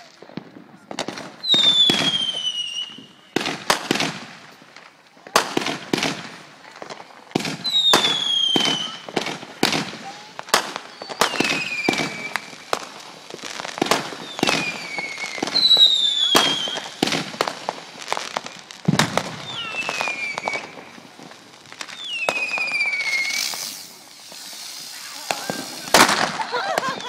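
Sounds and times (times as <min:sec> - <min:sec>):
fireworks bangs and crackling pops: 0:00.0 - 0:27.0
falling firework whistles: 0:00.9 - 0:04.3, 0:07.4 - 0:27.0.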